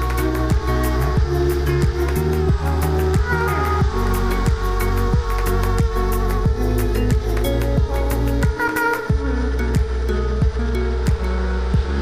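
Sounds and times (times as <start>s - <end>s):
electronic music beat: 0.0s - 12.0s
sustained synth chords: 0.0s - 12.0s.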